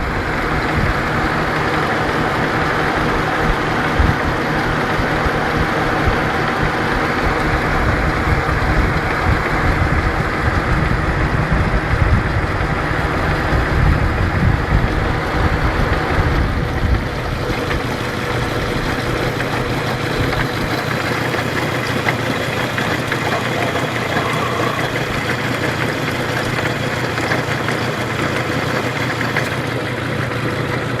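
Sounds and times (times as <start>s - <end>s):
engine idling with rhythmic knock: 0.0s - 31.0s.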